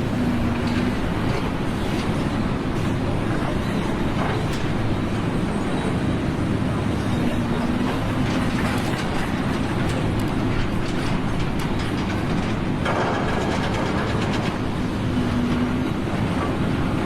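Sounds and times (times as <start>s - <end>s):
vehicles or heavy machinery running: 0.0s - 17.0s.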